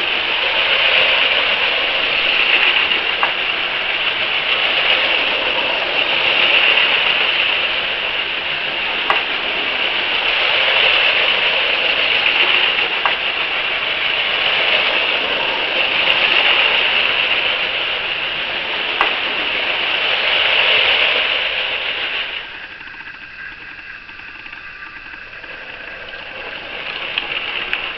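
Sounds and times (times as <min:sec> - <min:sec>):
toy train motors whirring: 0:00.0 - 0:27.9.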